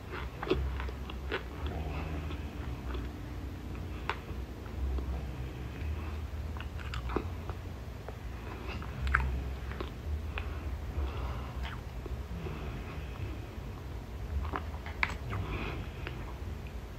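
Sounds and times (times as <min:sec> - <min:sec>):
person chewing with crackles: 0:00.0 - 0:16.9.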